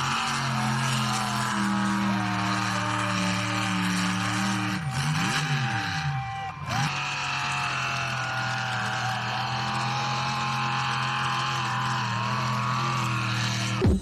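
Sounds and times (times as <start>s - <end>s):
tractor engine at high revs: 0.0s - 14.0s.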